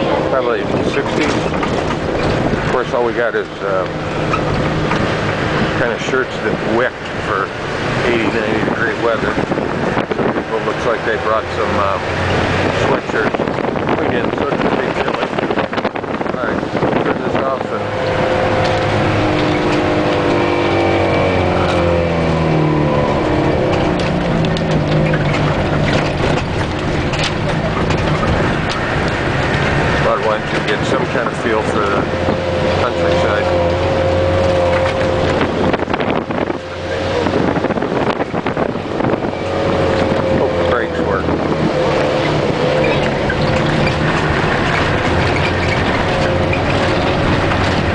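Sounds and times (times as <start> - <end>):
bus engine running under load: 0.0 - 47.9
wind buffeting microphone: 0.0 - 47.9.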